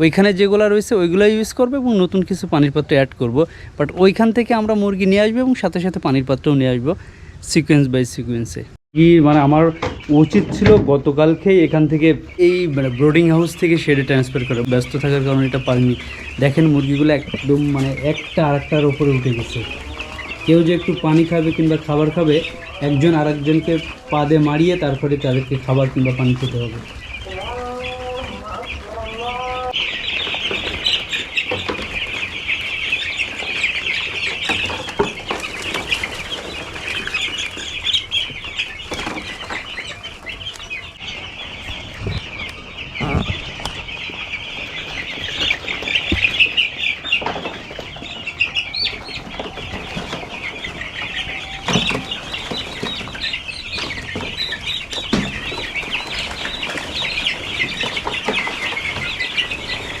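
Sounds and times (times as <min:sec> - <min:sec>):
chicks peeping: 0:00.0 - 1:00.0.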